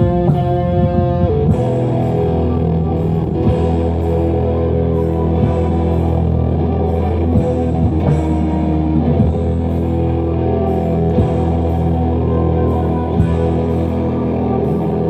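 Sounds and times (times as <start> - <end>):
live rock band playing: 0.0 - 15.0
sustained electric guitar chords: 0.0 - 15.0.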